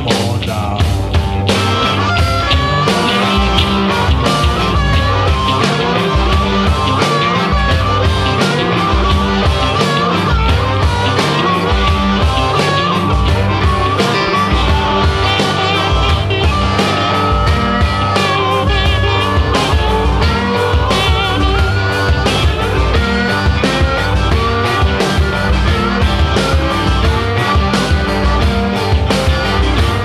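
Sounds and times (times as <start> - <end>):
driving drum beat: 0.0 - 30.0
electric guitar: 0.0 - 30.0.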